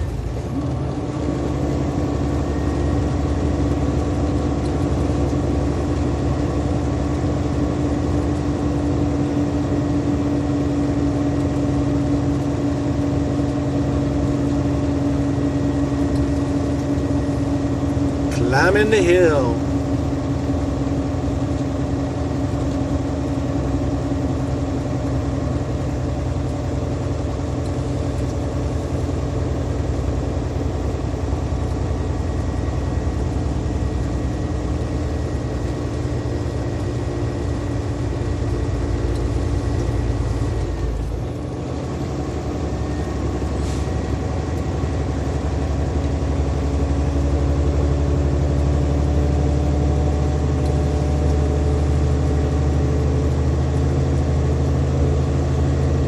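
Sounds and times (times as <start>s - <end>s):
truck diesel engine pulling hard: 0.0s - 56.0s.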